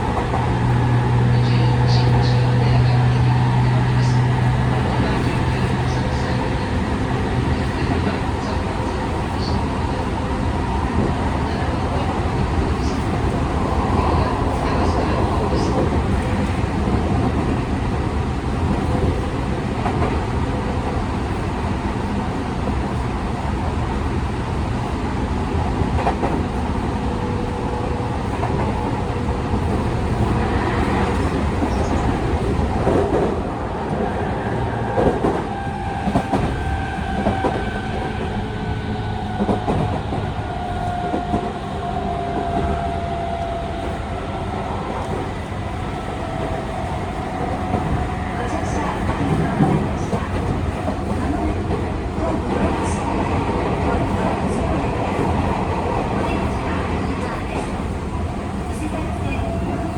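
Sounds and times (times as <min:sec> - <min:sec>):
train wheel and track rumble: 0:00.0 - 0:59.9.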